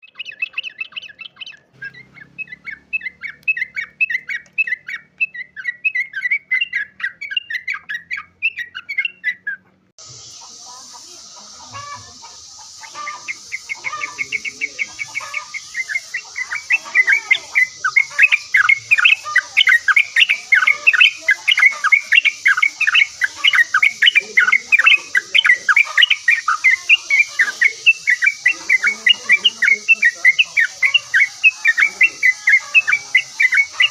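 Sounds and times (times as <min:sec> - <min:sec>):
bird singing chirping phrases: 0:00.0 - 0:33.9
rapid bird chatter: 0:00.0 - 0:33.9.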